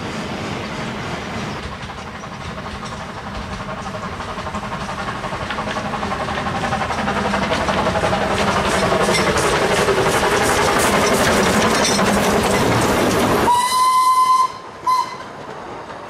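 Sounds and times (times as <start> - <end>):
steam engine exhaust beats: 0.0 - 15.6
rail clatter: 0.0 - 16.0.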